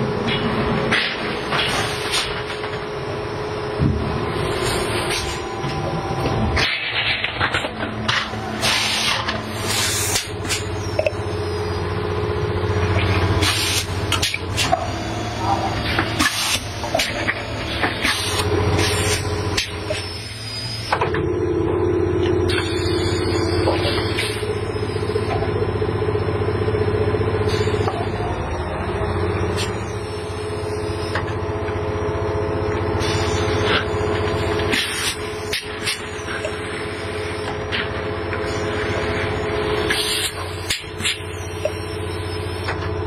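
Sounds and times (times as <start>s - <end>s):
machinery humming: 0.0s - 43.0s.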